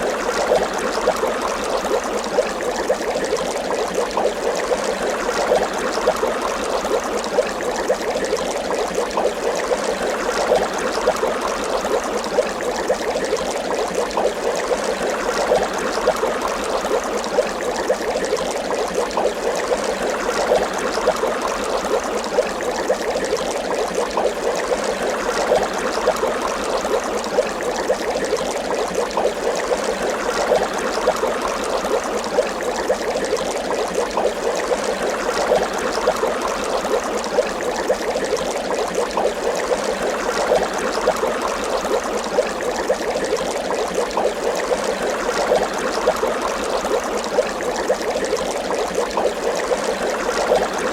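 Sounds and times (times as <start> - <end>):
water bubbling: 0.0 - 50.9.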